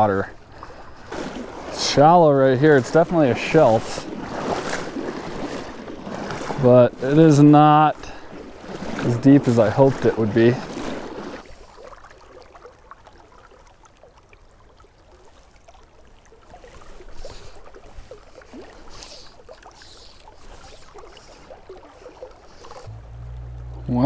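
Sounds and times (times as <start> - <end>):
river water lapping: 0.0 - 24.0.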